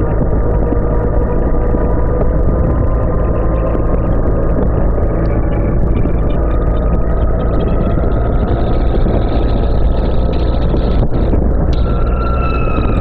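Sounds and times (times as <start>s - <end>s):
motorcycle engine: 0.0s - 13.0s
wind roar: 0.0s - 13.0s.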